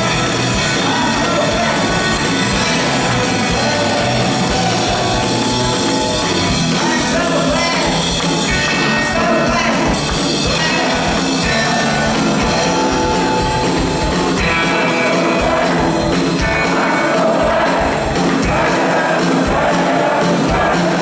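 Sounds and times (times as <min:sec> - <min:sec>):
rock band playing loudly: 0:00.0 - 0:21.0.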